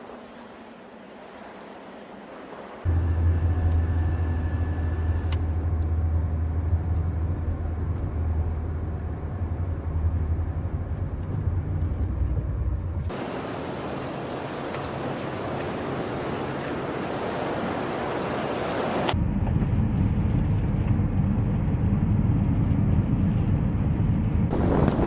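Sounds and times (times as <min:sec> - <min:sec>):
road vehicle droning: 0:02.9 - 0:25.0.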